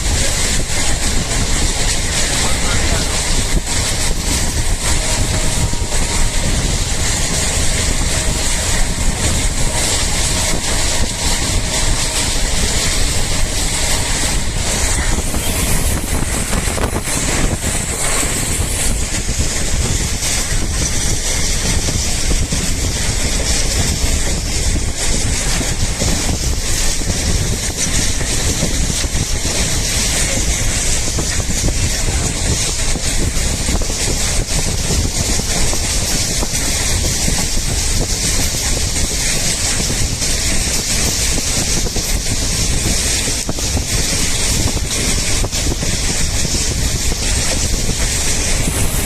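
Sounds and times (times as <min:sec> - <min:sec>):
train wheels rumbling on rails: 0:00.0 - 0:49.0
wind buffeting microphone: 0:00.0 - 0:49.0.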